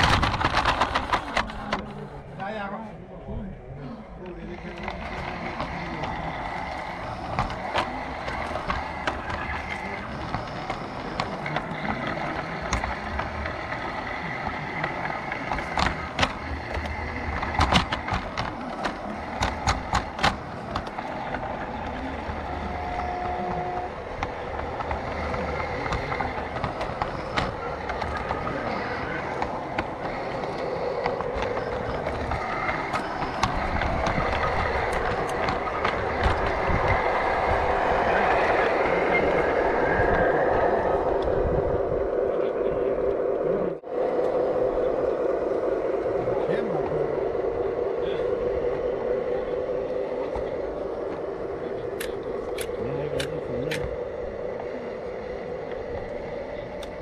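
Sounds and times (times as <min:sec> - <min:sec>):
model train wheels clicking: 0:00.0 - 0:02.8, 0:04.2 - 0:41.8, 0:43.8 - 0:57.0
model train running noise: 0:00.0 - 0:57.0.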